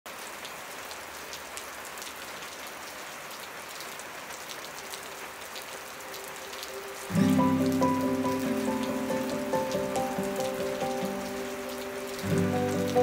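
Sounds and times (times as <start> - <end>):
steady rain: 0.1 - 13.0.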